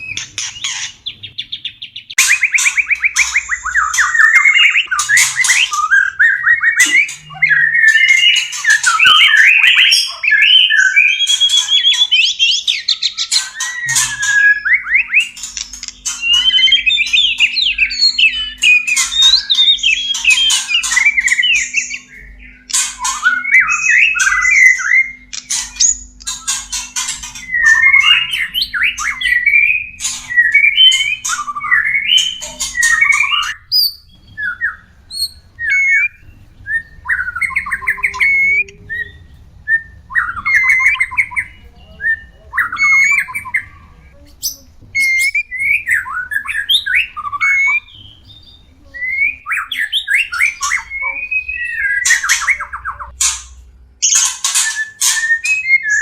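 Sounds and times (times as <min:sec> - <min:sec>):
bird calls and warbled phrases: 0:00.0 - 0:56.0.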